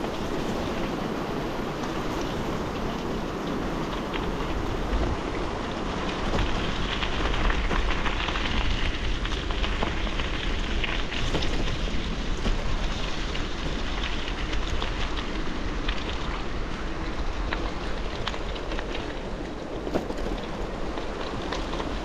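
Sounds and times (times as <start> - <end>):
bicycle tyres crunching gravel: 0.0 - 22.0
wind rumbling on microphone: 0.0 - 22.0.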